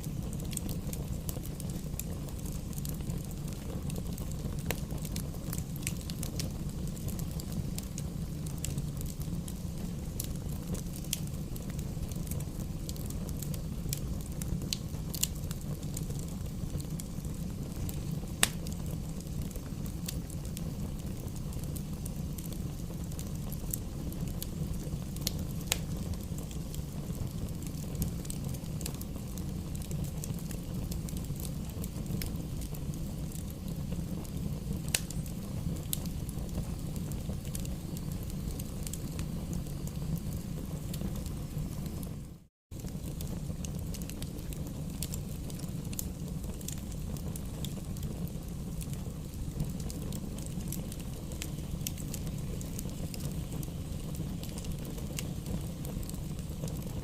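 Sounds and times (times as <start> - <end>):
fire popping: 0.0 - 57.0
low rumble of burning: 0.0 - 57.0
wood fire crackling: 0.0 - 57.0.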